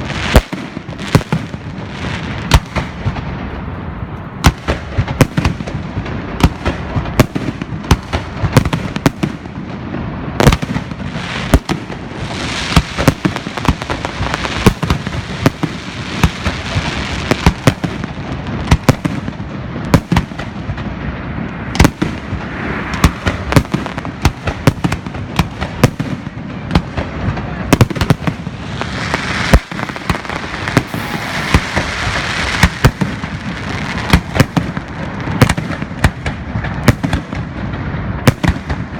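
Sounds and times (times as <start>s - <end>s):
firework hissing crackle: 0.0s - 4.0s, 4.6s - 38.9s
firework bangs: 0.0s - 38.9s.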